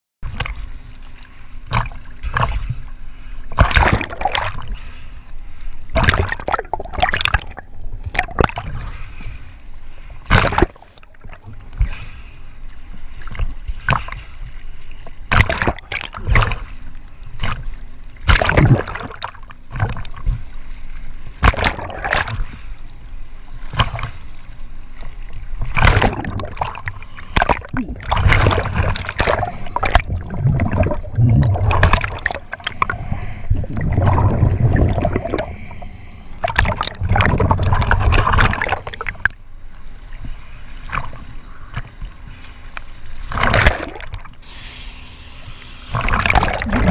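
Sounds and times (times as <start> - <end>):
waves sloshing and splashing: 0.2 - 46.9.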